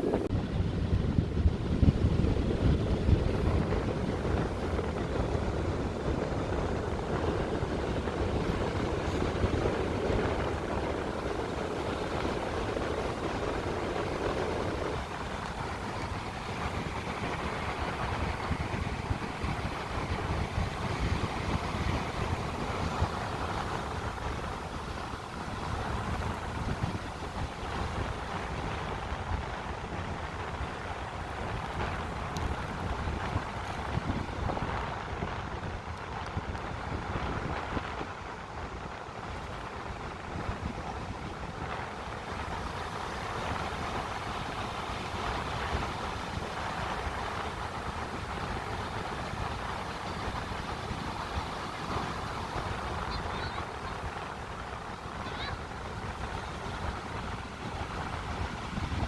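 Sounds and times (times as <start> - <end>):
steady rushing noise: 0.0 - 59.0
wind buffeting microphone: 0.0 - 59.0.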